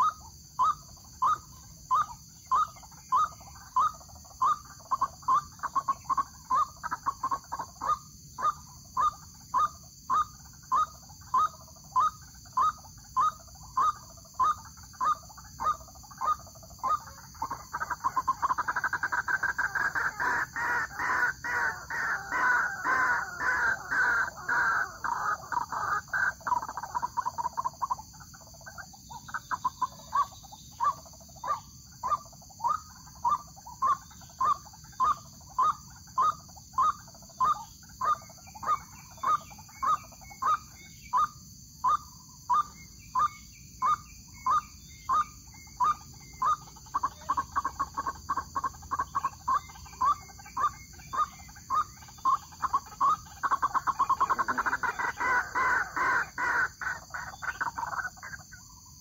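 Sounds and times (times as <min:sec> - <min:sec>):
waterhen croaking calls: 0:00.0 - 0:28.0, 0:28.6 - 0:58.5.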